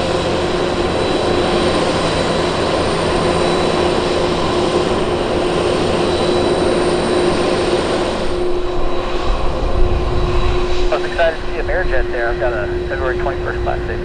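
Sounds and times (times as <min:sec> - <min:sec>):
airplane engines running: 0:00.0 - 0:14.0.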